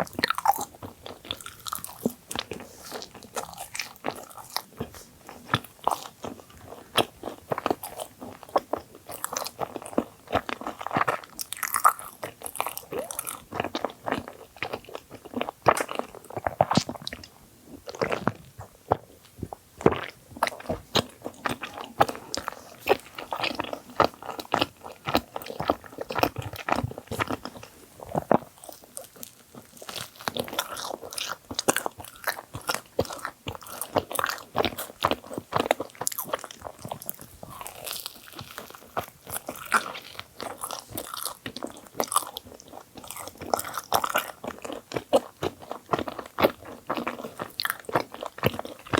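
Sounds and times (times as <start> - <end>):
close chewing and crunching: 0.0 - 48.9.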